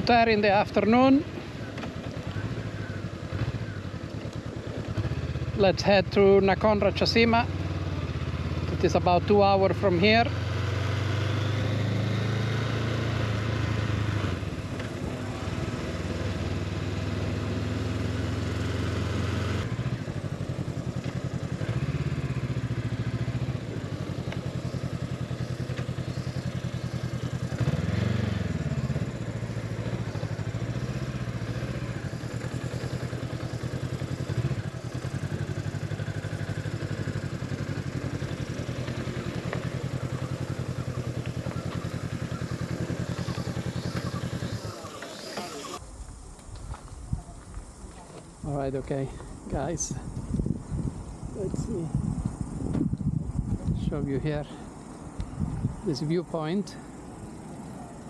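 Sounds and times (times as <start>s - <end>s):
motorcycle engine revving: 0.0s - 46.2s, 48.4s - 58.0s.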